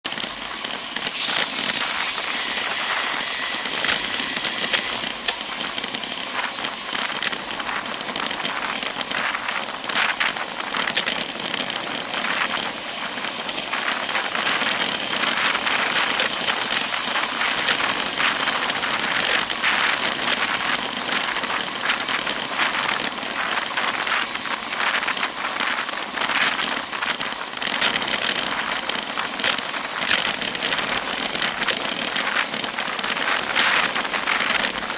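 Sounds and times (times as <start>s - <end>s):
rushing wind and road noise: 0.0s - 34.9s.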